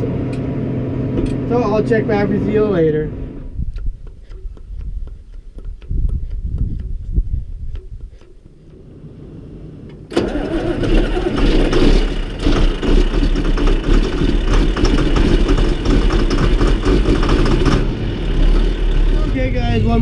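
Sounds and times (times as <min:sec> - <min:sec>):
tractor engine starting and running: 0:00.0 - 0:04.5, 0:07.7 - 0:20.0.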